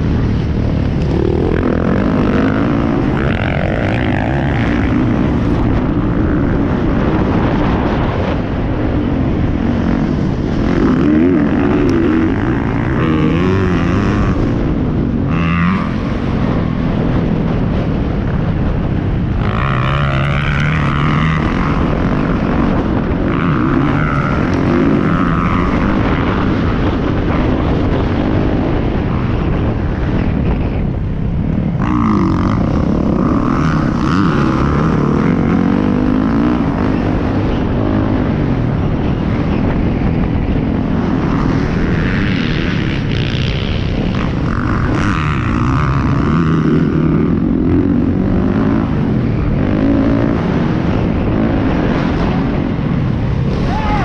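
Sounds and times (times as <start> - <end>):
motocross bike engine revving: 0.0 - 30.5, 31.6 - 54.0.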